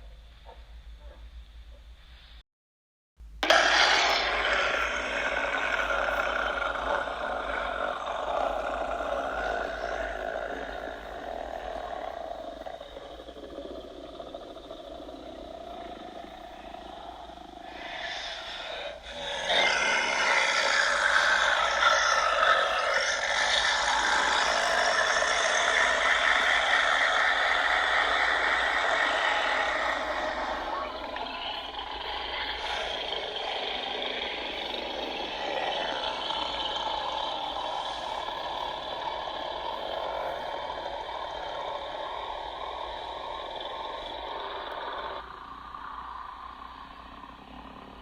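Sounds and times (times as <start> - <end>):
distorted demonic laughter: 3.4 - 45.6.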